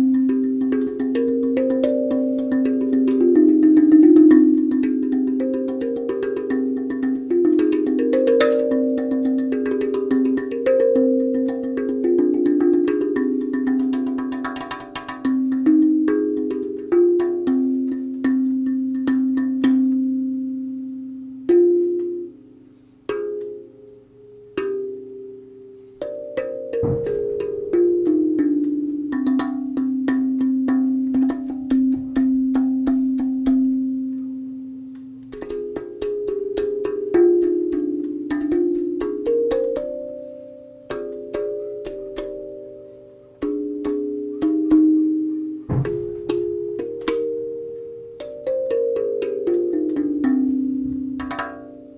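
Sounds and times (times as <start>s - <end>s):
steel tongue drum ringing notes: 0.0s - 51.9s.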